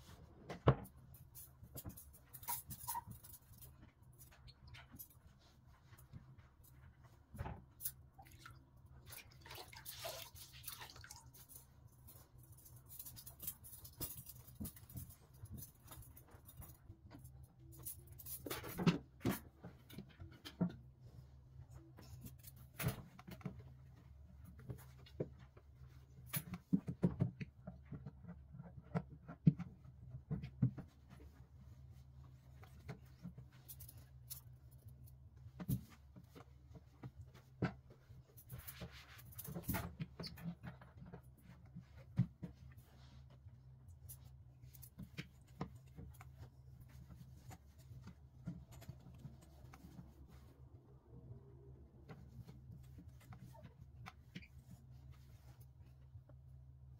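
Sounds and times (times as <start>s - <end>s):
household objects being handled: 0.0s - 56.9s.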